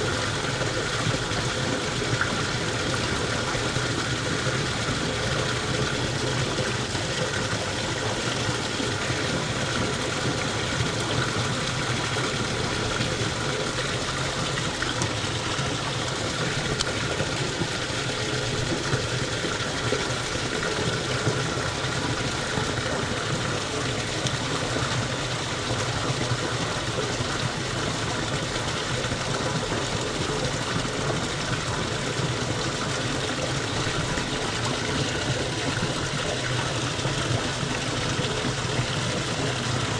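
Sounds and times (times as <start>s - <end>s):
water rushing through channel: 0.0s - 39.9s.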